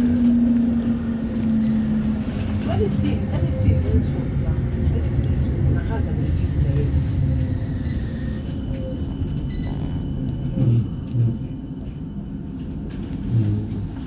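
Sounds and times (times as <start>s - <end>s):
tram wheels rumbling: 0.0s - 14.0s.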